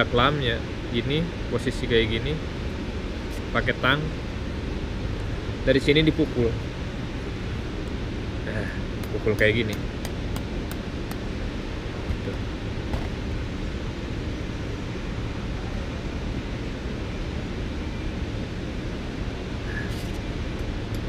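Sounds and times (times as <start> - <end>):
factory hall hiss and hum: 0.0 - 21.0.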